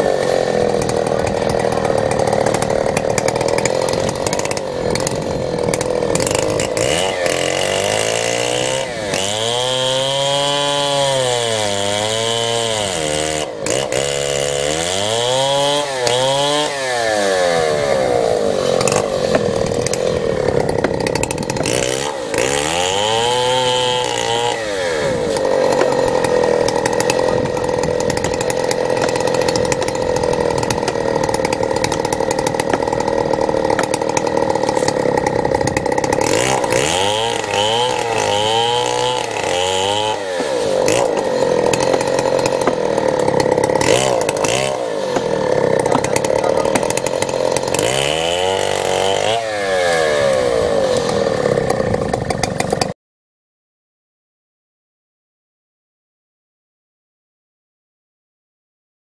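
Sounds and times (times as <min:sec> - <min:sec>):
chainsaw engine revving: 0:00.0 - 0:53.0.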